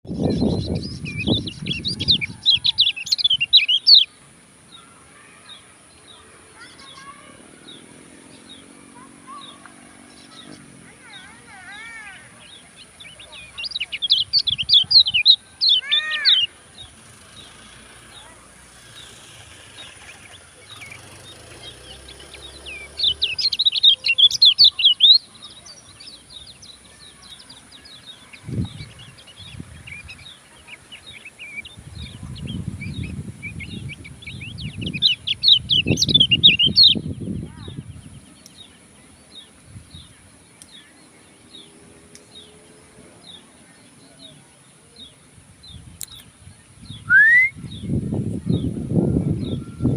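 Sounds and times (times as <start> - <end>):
songbird singing chirps and whistles: 0.1 - 49.9.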